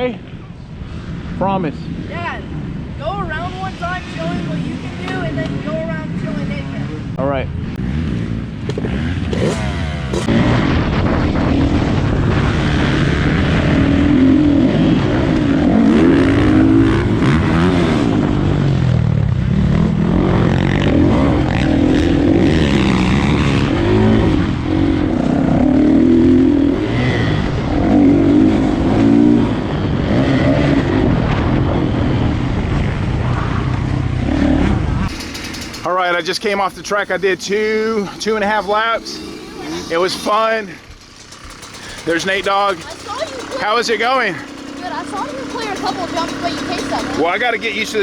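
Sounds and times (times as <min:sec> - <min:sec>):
dirt bike engine revving: 0:02.0 - 0:48.0.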